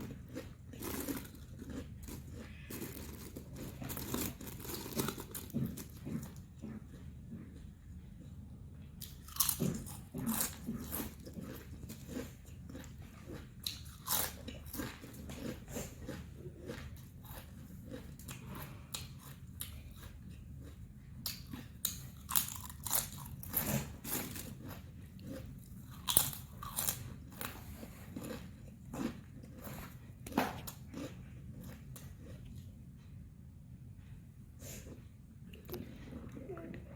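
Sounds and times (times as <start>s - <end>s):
chewing crunchy snack: 0.0s - 33.2s.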